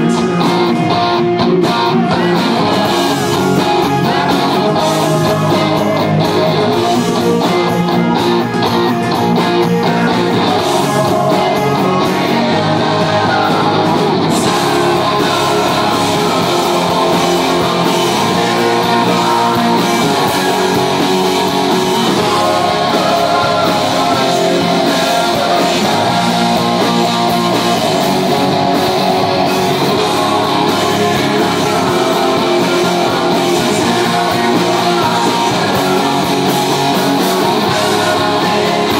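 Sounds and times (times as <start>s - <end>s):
bass guitar: 0.0s - 38.9s
drums: 0.0s - 38.9s
electric guitar: 0.0s - 38.9s.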